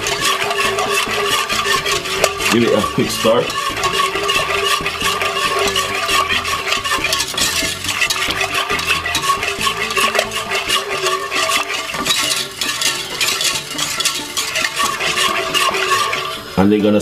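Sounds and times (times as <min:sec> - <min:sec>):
steady hum: 0:00.0 - 0:16.6
utensil scraping and swishing in pot: 0:00.0 - 0:17.0.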